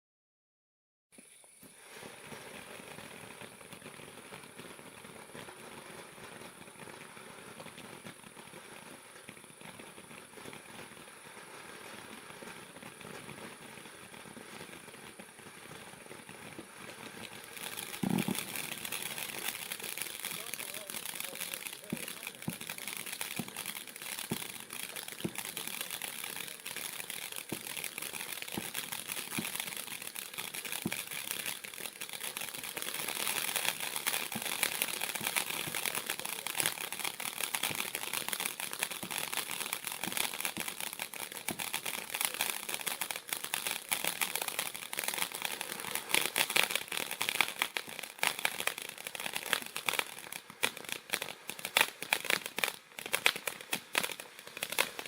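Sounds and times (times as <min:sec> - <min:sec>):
firework hissing and crackling: 0:01.1 - 0:55.0.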